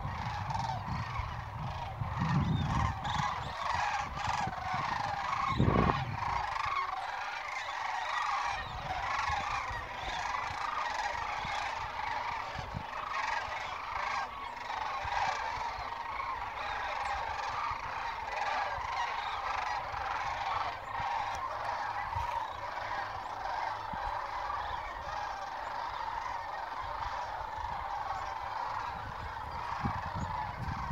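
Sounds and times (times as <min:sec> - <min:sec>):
geese honking in flight: 0:00.0 - 0:30.9.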